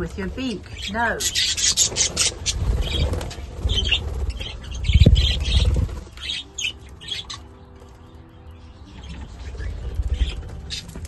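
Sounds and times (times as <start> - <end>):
wingbeats of birds: 0.0 - 11.0.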